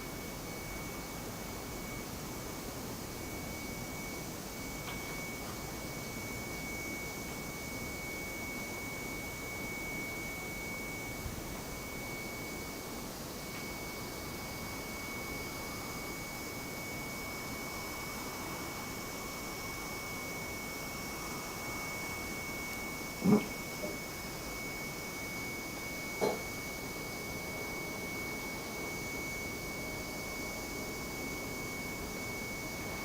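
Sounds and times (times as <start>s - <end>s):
steady high-pitched tone: 0.0s - 33.0s.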